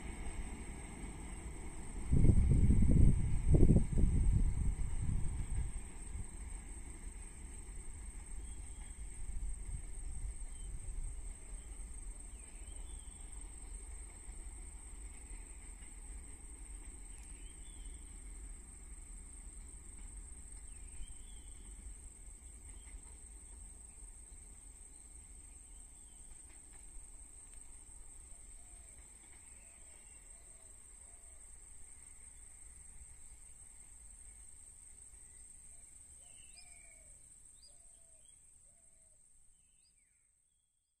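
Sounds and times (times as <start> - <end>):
insect drone: 0.0 - 40.6.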